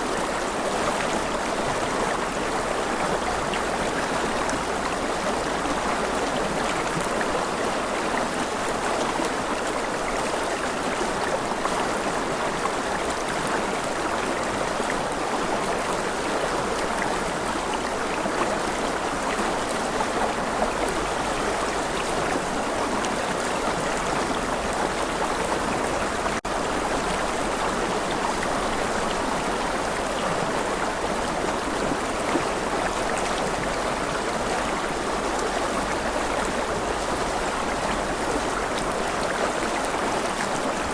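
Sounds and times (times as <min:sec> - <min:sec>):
flowing stream: 0:00.0 - 0:40.9.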